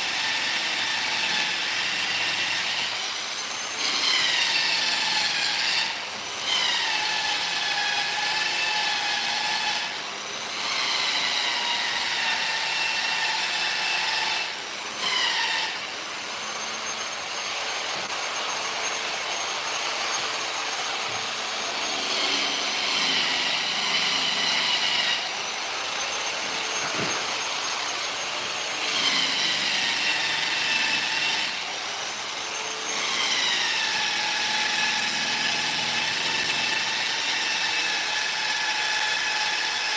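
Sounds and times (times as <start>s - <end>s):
power tool motor whining: 0.0s - 39.9s.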